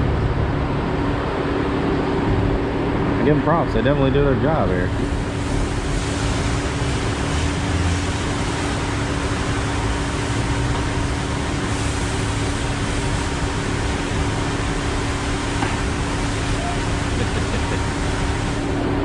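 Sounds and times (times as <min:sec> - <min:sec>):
machinery hum: 0:00.0 - 0:19.0
constant hiss: 0:03.0 - 0:19.0.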